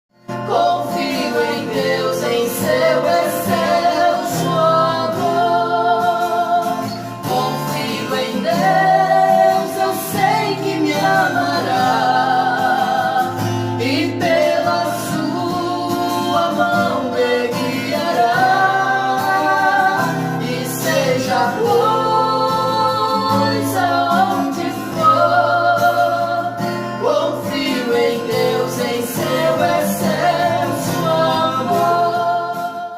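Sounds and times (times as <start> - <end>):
guitar accompaniment: 0.1 - 32.9
woman singing with vibrato: 0.4 - 32.9.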